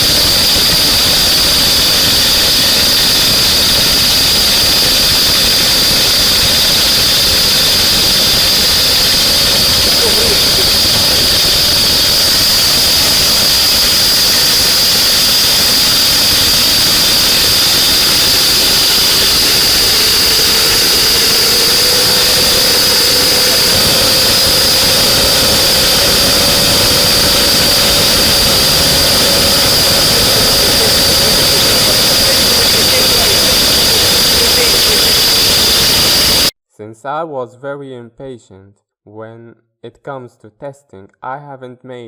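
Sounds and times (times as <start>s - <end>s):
jet engine rushing hiss and whine: 0.0s - 36.5s.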